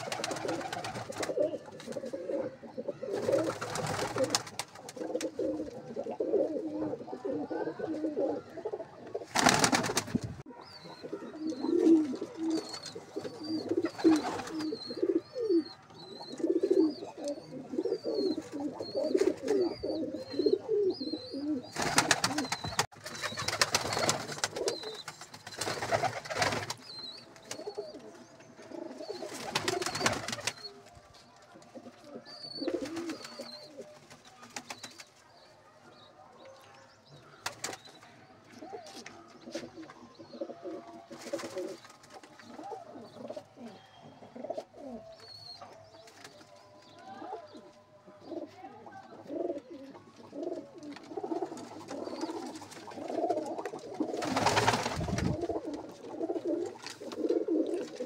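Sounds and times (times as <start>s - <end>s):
pigeons cooing: 0.0s - 26.7s, 27.6s - 30.6s, 31.7s - 34.0s, 38.6s - 45.6s, 47.1s - 58.0s.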